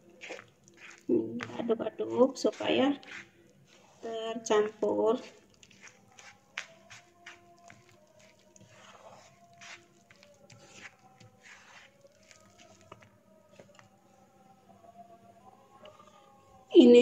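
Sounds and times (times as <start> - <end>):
batter squelching while stirred: 0.0 - 14.6.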